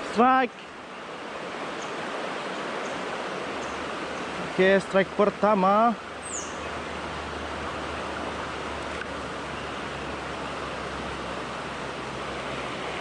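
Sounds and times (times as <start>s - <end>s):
flowing stream: 0.0s - 13.0s.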